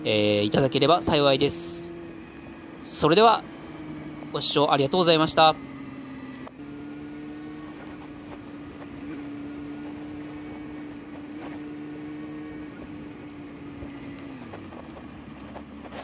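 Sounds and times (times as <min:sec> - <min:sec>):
motorcycle engine cruising: 0:00.0 - 0:16.0
wind and road noise: 0:00.0 - 0:16.0.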